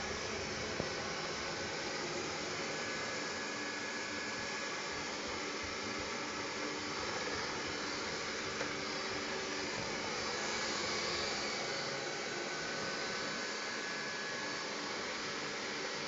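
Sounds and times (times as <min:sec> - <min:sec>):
robot vacuum running: 0:00.0 - 0:16.0.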